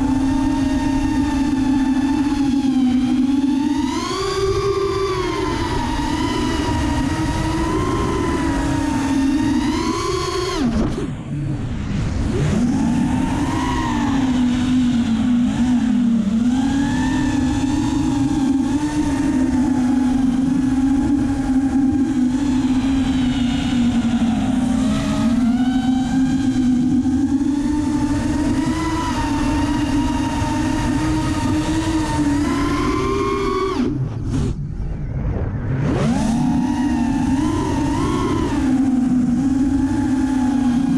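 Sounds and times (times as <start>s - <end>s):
drone motors whining: 0.0s - 40.9s
wind rumble on microphone: 0.0s - 40.9s.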